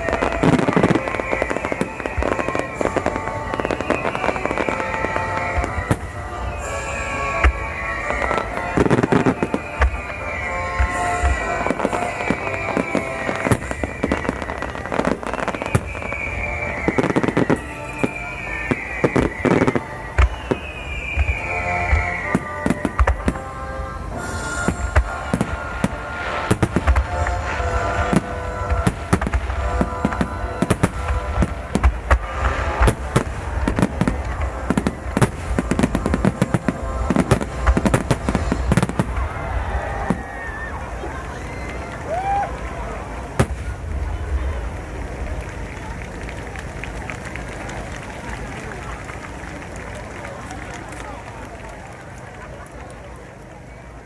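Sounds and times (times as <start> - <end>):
music playing: 0.0 - 45.7
fireworks bursting: 0.0 - 54.0.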